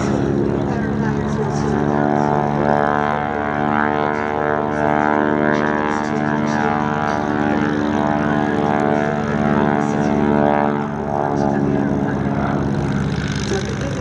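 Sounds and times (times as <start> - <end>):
biplane engines droning: 0.0 - 14.0.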